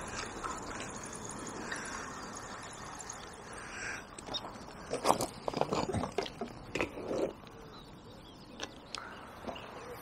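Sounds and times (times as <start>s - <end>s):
distant birdsong: 0.0s - 5.5s, 6.5s - 10.0s.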